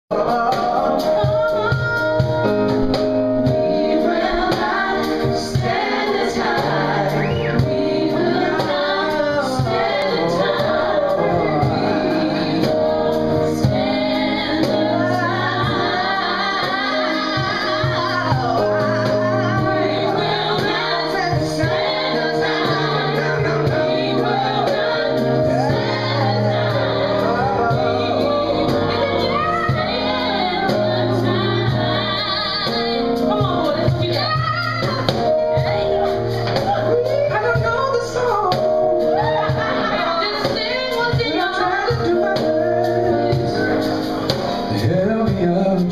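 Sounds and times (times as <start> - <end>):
men and women singing together: 0.1 - 2.8, 3.4 - 45.9
live band music: 0.1 - 45.9
woman singing lead: 0.6 - 44.1.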